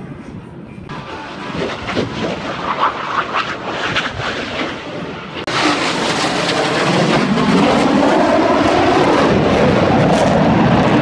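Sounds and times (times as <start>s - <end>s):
jet roar crackling: 0.9s - 11.0s.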